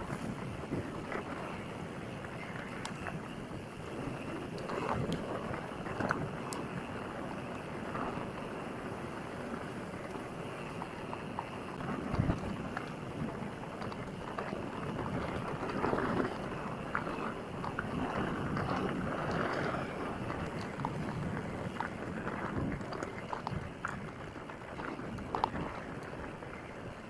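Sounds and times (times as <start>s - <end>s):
bike ride rumbling: 0.0s - 27.0s
wind on microphone: 0.0s - 27.0s.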